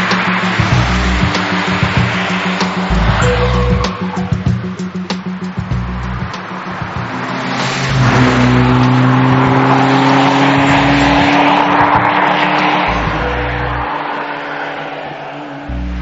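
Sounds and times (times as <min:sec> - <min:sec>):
tyres hissing on wet road: 0:00.0 - 0:04.4, 0:06.1 - 0:15.2
car engine accelerating: 0:00.0 - 0:16.0.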